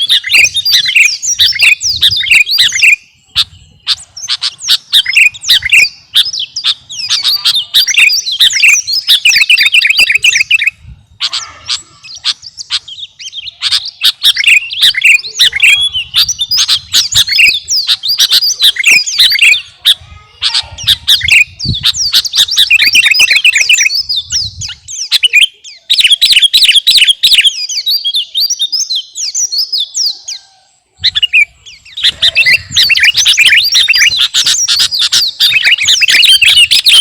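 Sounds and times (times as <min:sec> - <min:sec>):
bird singing chirping notes: 0:00.0 - 0:37.0.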